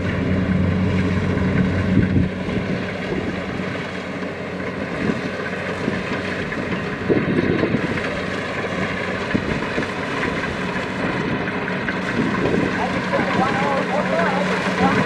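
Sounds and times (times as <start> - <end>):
clatter of harvesting machinery: 0.0 - 15.0
diesel engine drone: 0.0 - 15.0.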